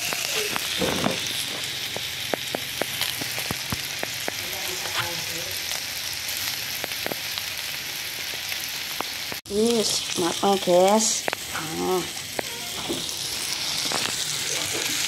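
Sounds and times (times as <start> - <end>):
crackles and pops: 0.0 - 15.0
skewers sizzling on grill pan: 0.0 - 15.0.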